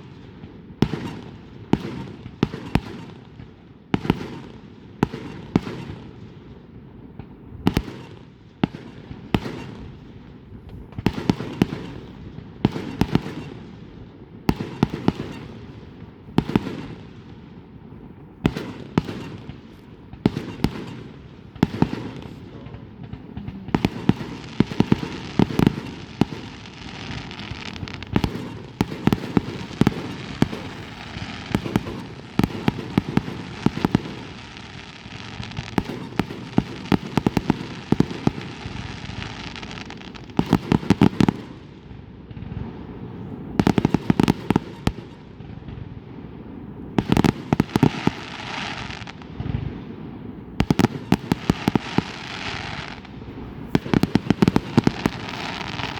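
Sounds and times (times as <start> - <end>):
fireworks bangs: 0.0 - 55.9
fireworks crackling: 0.0 - 55.9.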